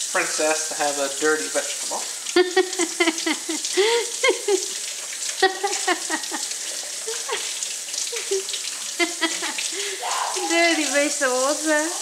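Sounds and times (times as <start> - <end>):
faucet water splashing into sink: 0.0 - 12.0
water gurgling: 0.0 - 12.0.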